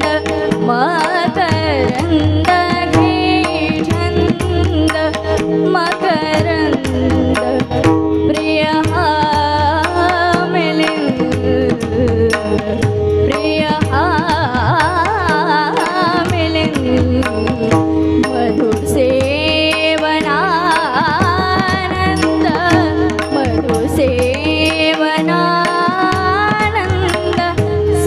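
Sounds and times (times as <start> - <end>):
tabla drumming: 0.0 - 28.0
woman singing: 0.0 - 28.0.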